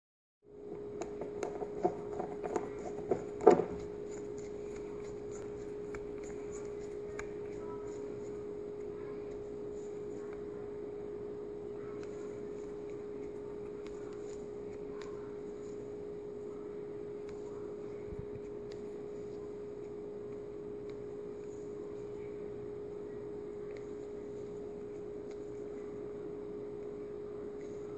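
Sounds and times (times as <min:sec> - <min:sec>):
steady hum: 0:00.5 - 0:27.9.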